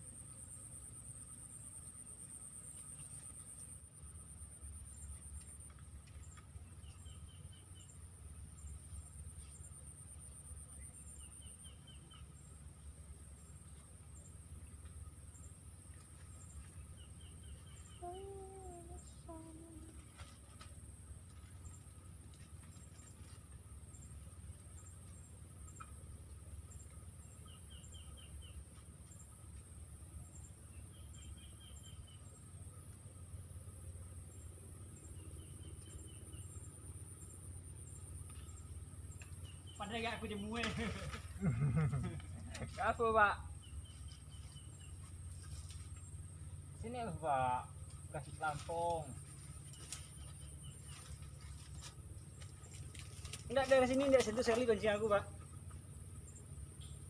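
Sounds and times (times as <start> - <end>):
insects pulsing trill: 0.0 - 57.0.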